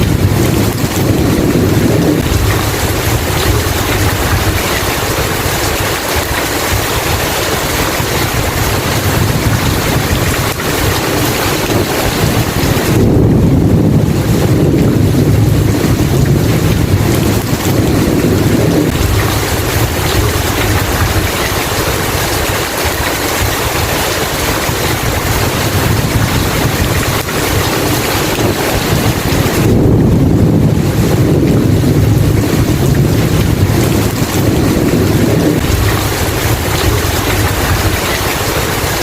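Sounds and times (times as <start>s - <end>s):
heavy rain hiss: 0.0s - 39.0s
low thunder rumble: 0.0s - 39.0s.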